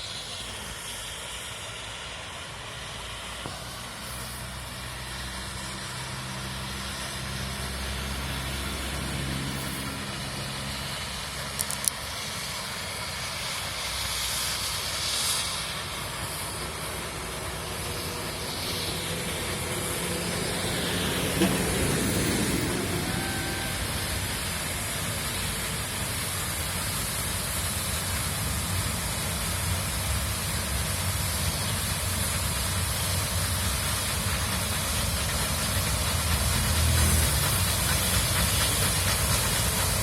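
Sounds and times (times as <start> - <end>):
steam locomotive hissing steam: 0.0 - 40.0.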